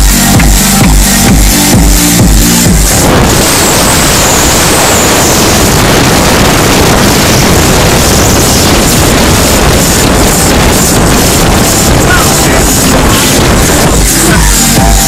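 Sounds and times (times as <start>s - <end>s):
wind buffeting microphone: 1.8s - 14.9s.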